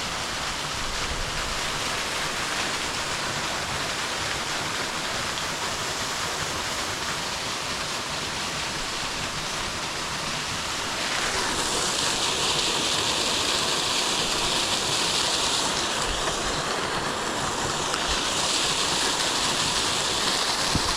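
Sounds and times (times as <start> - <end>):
stream water rushing: 0.0 - 20.9.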